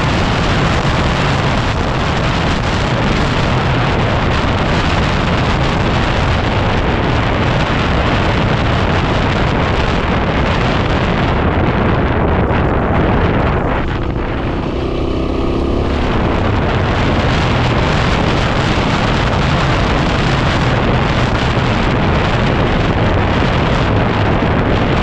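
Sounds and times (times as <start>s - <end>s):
motorcycle engine running: 0.0s - 25.0s
wind buffeting on microphone: 0.0s - 25.0s.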